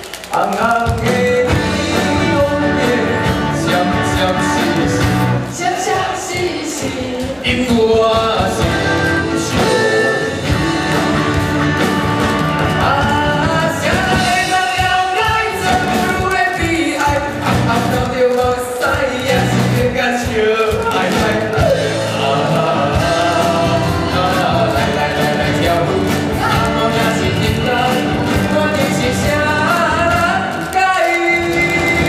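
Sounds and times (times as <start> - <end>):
drum kit: 0.0 - 32.0
man singing: 0.2 - 32.0.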